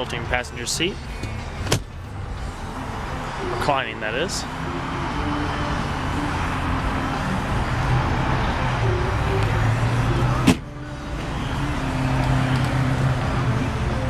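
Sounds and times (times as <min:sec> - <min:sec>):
motor vehicle hum: 0:00.0 - 0:14.0.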